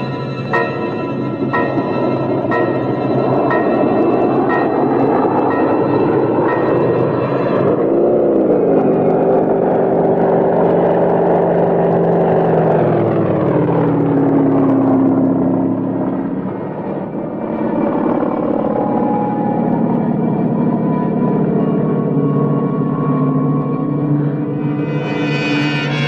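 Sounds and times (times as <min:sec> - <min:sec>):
propeller aircraft engine droning: 0:00.0 - 0:26.0.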